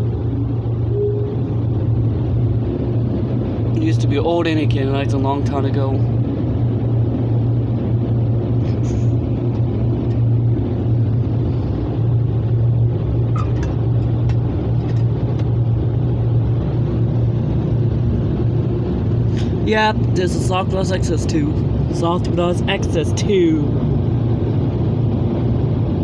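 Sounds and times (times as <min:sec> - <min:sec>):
car wash mechanical hum: 0:00.0 - 0:26.0.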